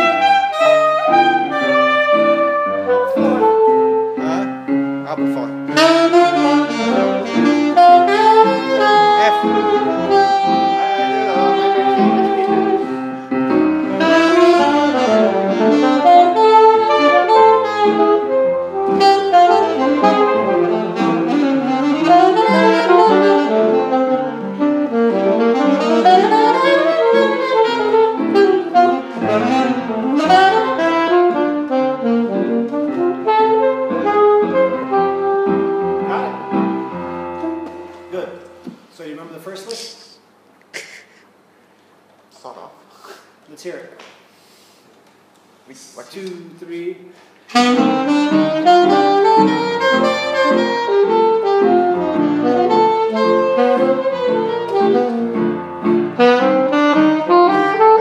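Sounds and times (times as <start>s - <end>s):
saxophone jazz runs: 0.0s - 39.6s, 47.2s - 58.0s.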